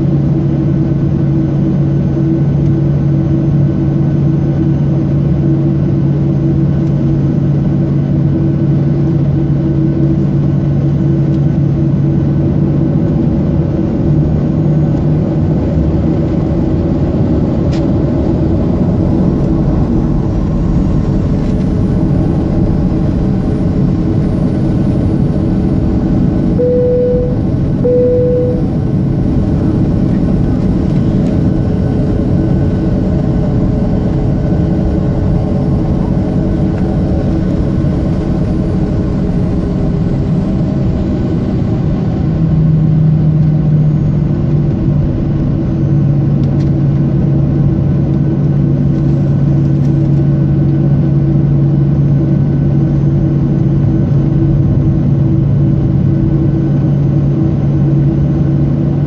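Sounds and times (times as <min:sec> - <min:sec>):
jet engines idling in cabin: 0:00.0 - 0:59.0
low steady hum: 0:00.0 - 0:59.0.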